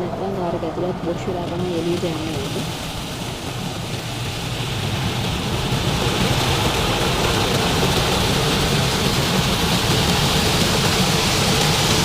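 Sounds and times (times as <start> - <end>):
car wash water hissing on bodywork: 1.6 - 12.0.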